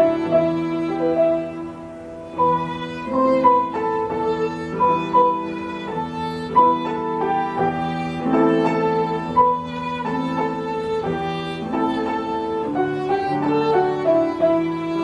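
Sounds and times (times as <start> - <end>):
violin playing a melody: 0.0 - 15.0.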